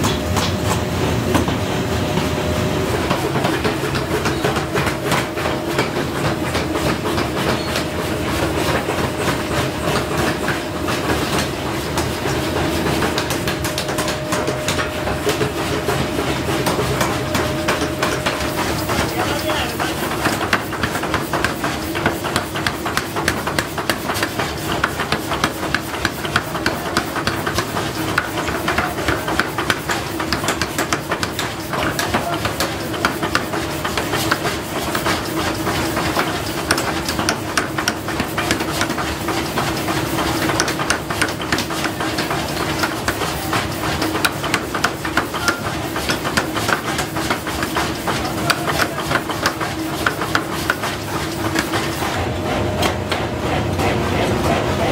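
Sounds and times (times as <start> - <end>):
machine hum: 0.0 - 54.9
power hammer pounding steel: 2.9 - 54.9.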